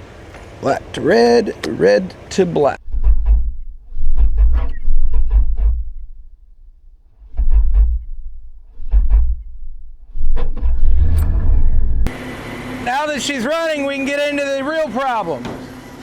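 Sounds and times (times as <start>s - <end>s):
engine catching: 0.0s - 15.9s.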